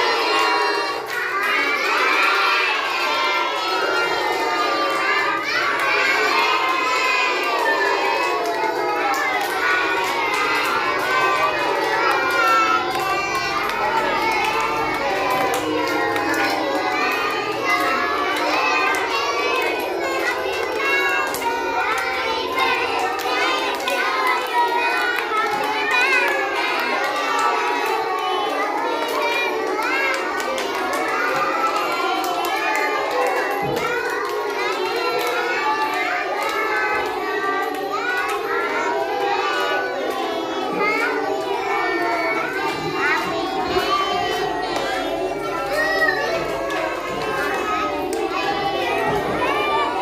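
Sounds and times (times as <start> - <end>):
children shouting and cheering: 0.0 - 50.0.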